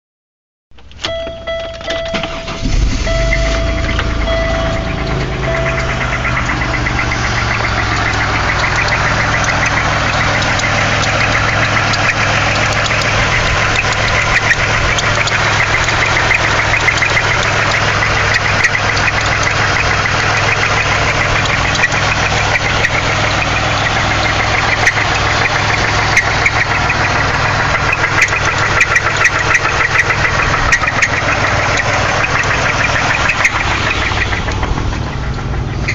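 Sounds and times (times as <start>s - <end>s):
car engine idling with knock: 0.7s - 35.9s.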